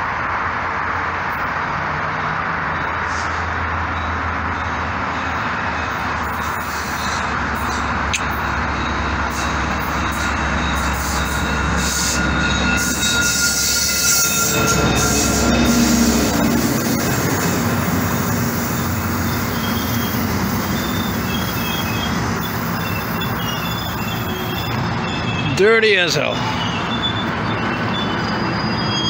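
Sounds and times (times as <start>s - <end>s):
train rumbling past: 0.0s - 29.0s
high wheel squeals: 2.1s - 29.0s.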